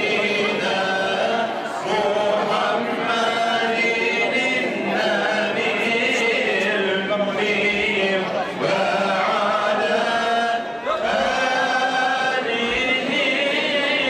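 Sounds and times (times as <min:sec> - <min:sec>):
congregation chanting: 0:00.0 - 0:14.0.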